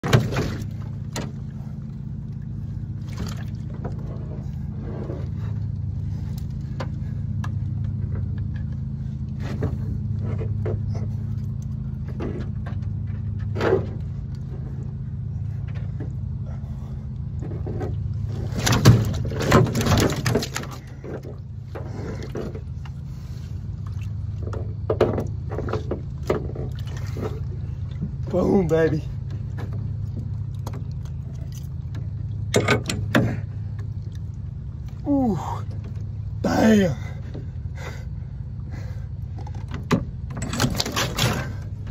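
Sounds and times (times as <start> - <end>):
fish flopping and splashing: 0.0 - 36.4, 37.2 - 41.9
steady low hum: 0.0 - 41.9.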